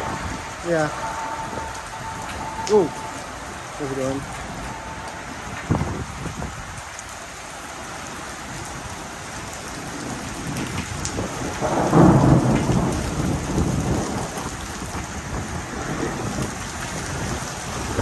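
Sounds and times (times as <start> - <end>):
thunder rolling: 0.0 - 7.0, 9.6 - 18.0
steady rain falling: 0.0 - 18.0.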